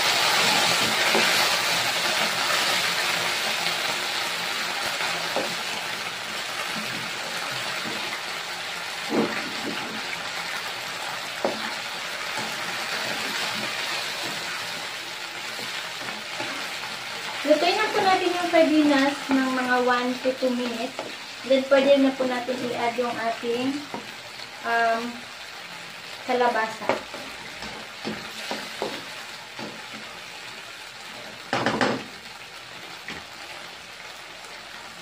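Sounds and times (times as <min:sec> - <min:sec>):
food sizzling in a wok: 0:00.0 - 0:35.0.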